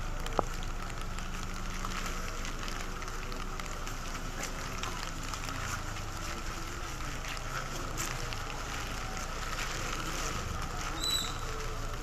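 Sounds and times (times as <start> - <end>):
car engine humming: 0.0 - 12.0
raindrops tapping: 0.0 - 12.0
steady rain: 0.0 - 12.0.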